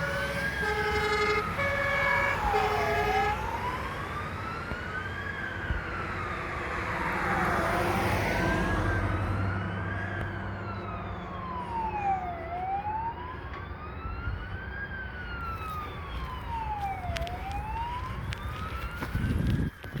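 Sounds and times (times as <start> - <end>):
fire engine siren wailing: 0.0 - 20.0
low vehicle rumble: 0.0 - 20.0.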